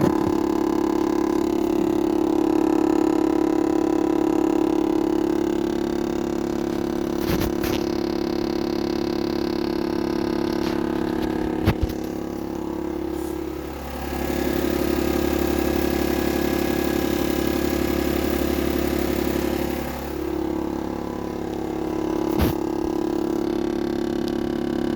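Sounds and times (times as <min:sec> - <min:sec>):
diesel engine running: 0:00.0 - 0:24.9
low rattling vibration: 0:00.0 - 0:24.9.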